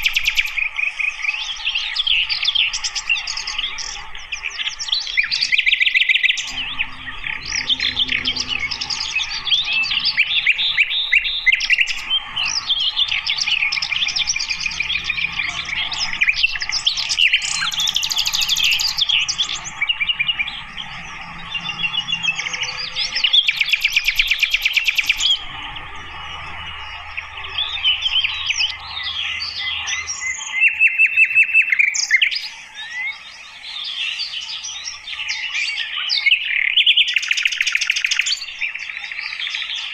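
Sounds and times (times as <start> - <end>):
flycatcher twittering song: 0.0 - 39.9
rapid ticking bird trills: 0.0 - 39.9.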